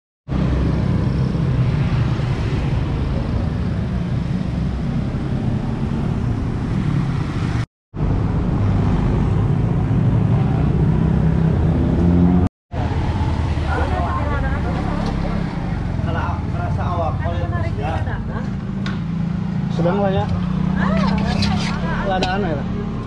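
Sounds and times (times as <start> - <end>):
passing cars and motorbikes: 0.3 - 23.0.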